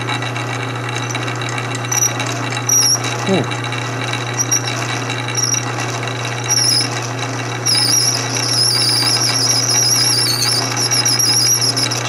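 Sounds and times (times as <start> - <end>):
lathe motor hum: 0.0 - 12.0
drill squealing in metal: 1.0 - 12.0.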